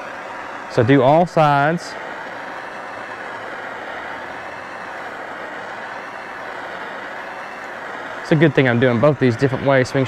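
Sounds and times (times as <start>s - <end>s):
propane torch flame rushing: 0.0s - 10.0s.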